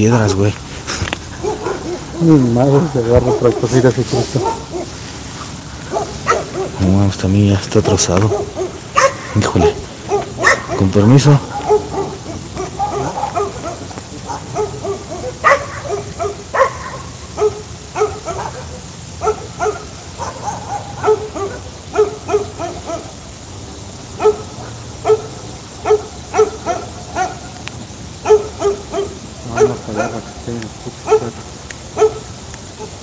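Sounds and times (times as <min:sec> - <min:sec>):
dogs barking: 0:01.2 - 0:33.0.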